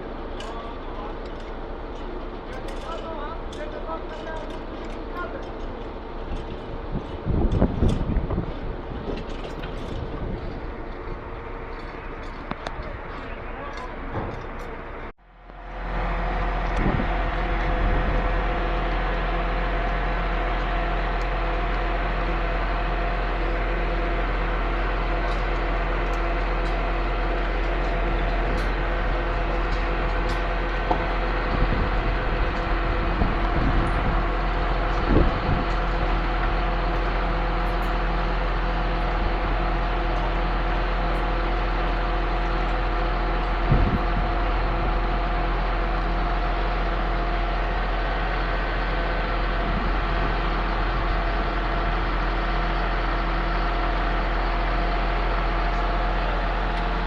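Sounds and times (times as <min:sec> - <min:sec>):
pump truck mechanical drone: 0:00.0 - 0:57.0.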